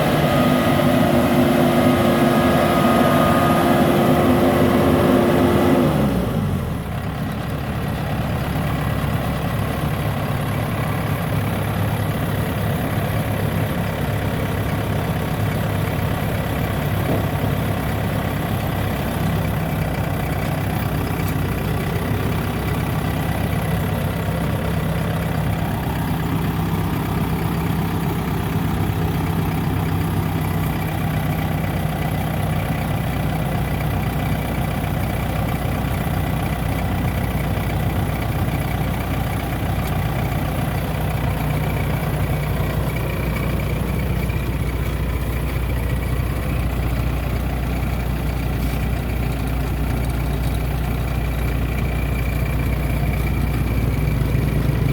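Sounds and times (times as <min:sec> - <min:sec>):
harvester engine running: 0:00.0 - 0:54.9.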